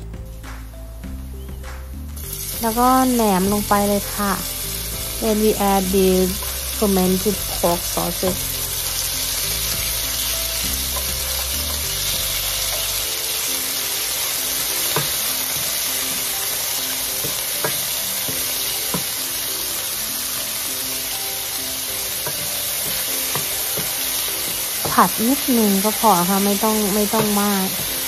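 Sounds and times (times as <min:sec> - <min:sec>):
sausage sizzling in oil: 0:02.1 - 0:28.0.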